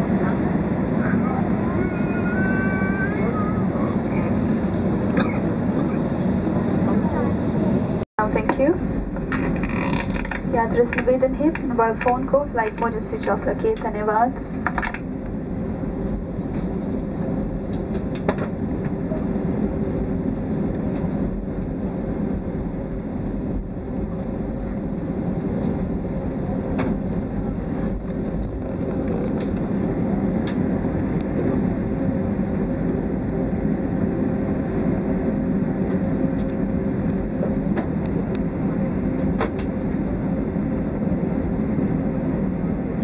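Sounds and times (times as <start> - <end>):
airliner cabin rumble: 0.0 - 43.0.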